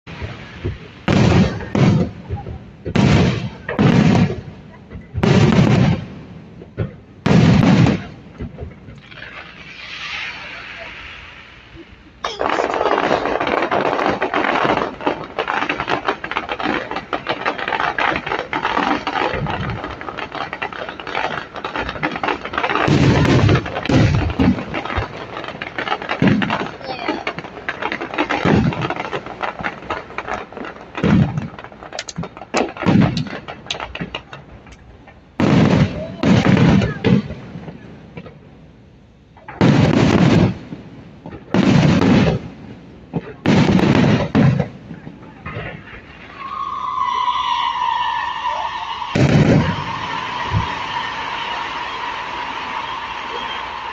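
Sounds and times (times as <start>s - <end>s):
fireworks crackling and popping: 0.0s - 53.9s
fireworks booms: 0.1s - 53.9s.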